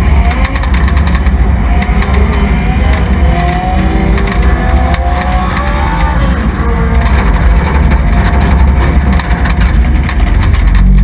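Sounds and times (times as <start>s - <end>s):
loud truck engine running: 0.0s - 11.0s.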